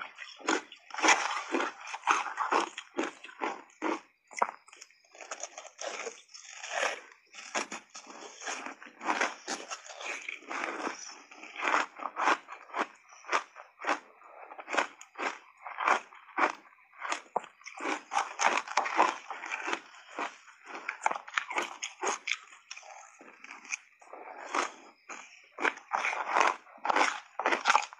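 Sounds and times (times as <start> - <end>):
ice crunching while chewed: 0.0 - 27.9.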